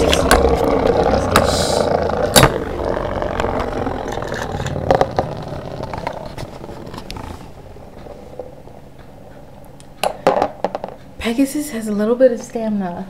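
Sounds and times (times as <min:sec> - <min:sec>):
spinning tops whirring: 0:00.0 - 0:11.1.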